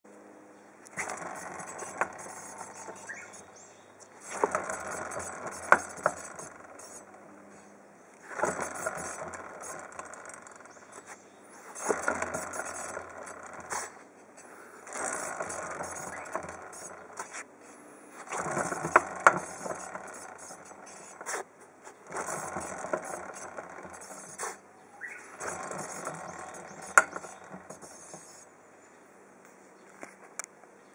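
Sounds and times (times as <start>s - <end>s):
scraping rattling with sharp clicks: 0.8s - 28.5s.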